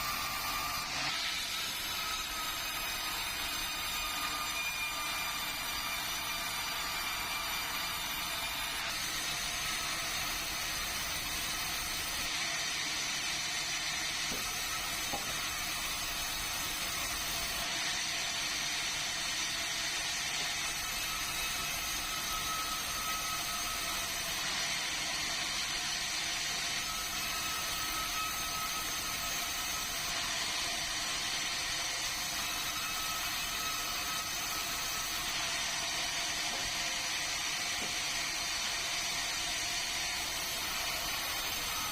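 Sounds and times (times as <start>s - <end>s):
band saw cutting timber: 0.0s - 41.9s
faint saw whine: 0.0s - 41.9s.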